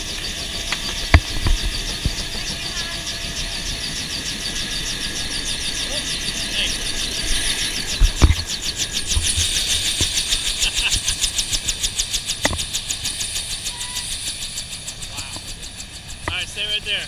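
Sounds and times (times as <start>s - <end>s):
helicopter rotor beating: 0.0s - 17.0s
turbine engine whine: 0.0s - 17.0s.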